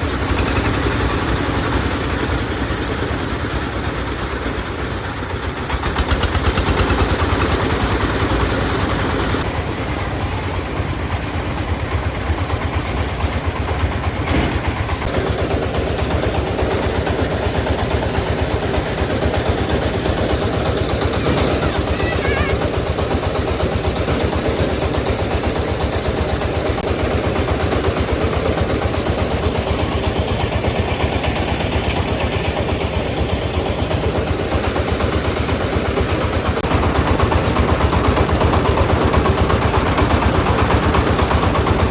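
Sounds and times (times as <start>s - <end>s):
small engine chugging: 0.0s - 41.9s.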